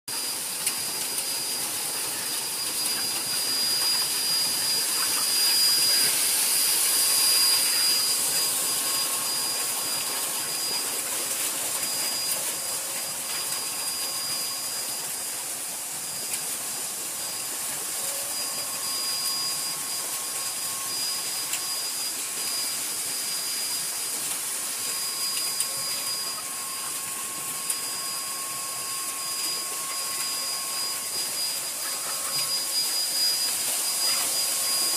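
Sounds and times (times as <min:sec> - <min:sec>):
sprayer hissing: 0:00.1 - 0:34.9
thin machine whine: 0:00.1 - 0:34.9.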